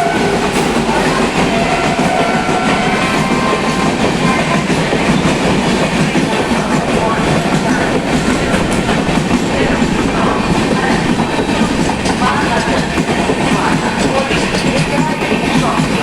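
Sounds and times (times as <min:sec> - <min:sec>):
train rushing past: 0:00.0 - 0:16.0
train wheels clattering over rail joints: 0:00.4 - 0:16.0.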